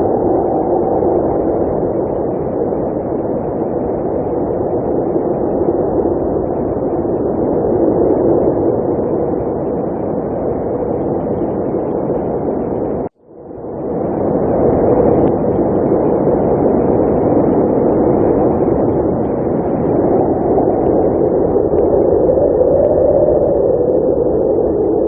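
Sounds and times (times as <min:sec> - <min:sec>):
blizzard wind howling: 0:00.0 - 0:25.0.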